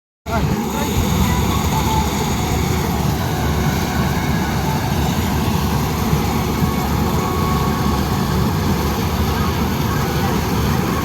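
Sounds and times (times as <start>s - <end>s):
combine harvester engine drone: 0.3s - 11.0s.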